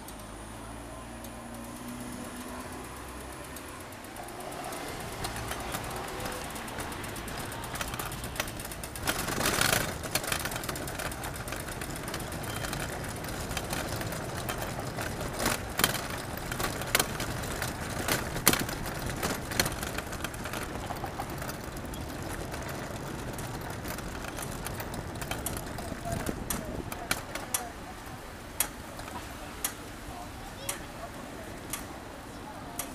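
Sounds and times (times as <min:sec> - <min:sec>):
traffic noise: 0:00.0 - 0:32.9
sharp clicks and knocks: 0:01.2 - 0:27.8.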